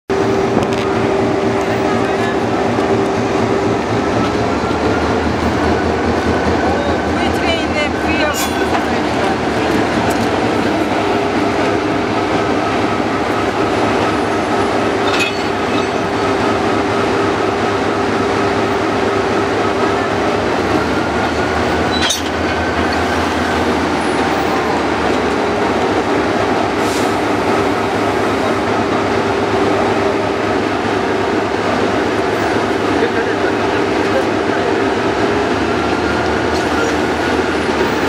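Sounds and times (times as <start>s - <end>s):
diesel locomotive engine running: 0.1s - 38.0s.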